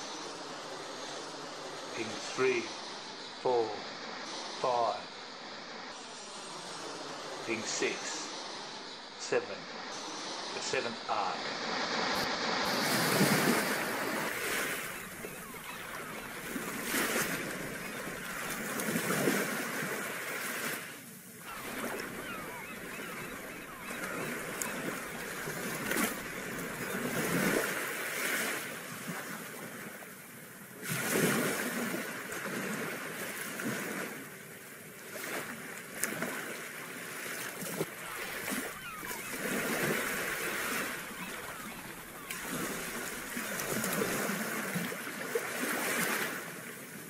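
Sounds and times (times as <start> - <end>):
sea waves washing: 0.0 - 47.0.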